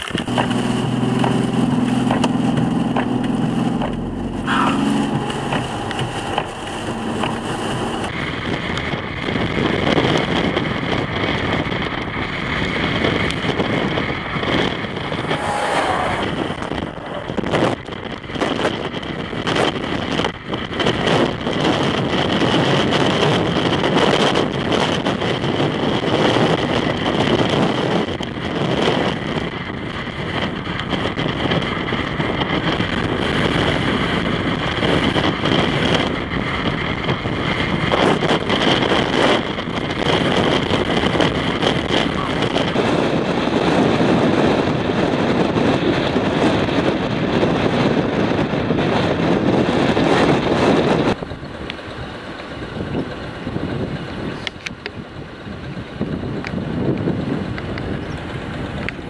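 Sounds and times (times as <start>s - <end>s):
highway traffic: 0.0s - 59.0s
wind gusting across microphone: 0.0s - 59.0s.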